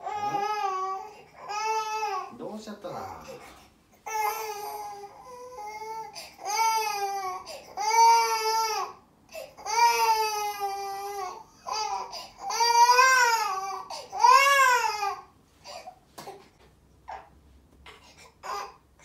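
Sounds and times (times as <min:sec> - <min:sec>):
baby crying: 0:00.0 - 0:02.3, 0:03.1 - 0:16.0, 0:17.9 - 0:18.8.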